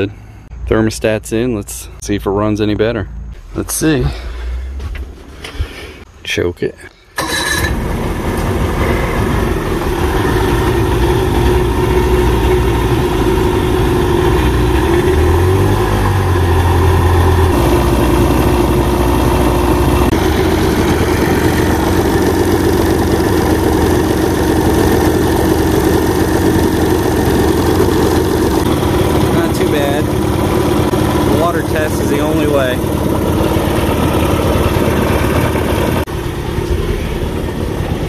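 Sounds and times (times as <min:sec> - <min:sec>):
outboard motor idling: 0:07.2 - 0:38.0.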